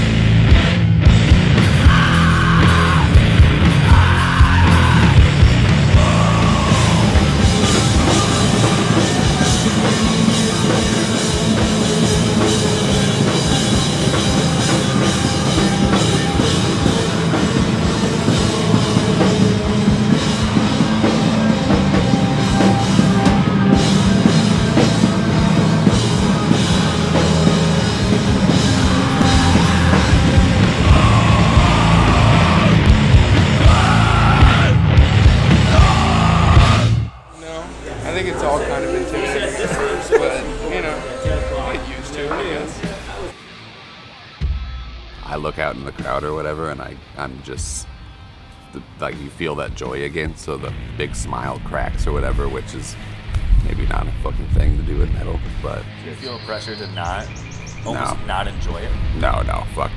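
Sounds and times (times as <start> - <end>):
heavy metal band playing: 0.0 - 59.9.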